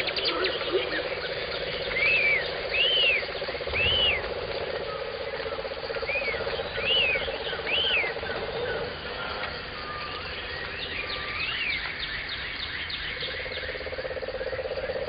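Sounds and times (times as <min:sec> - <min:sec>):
bird calling: 0:00.0 - 0:14.0.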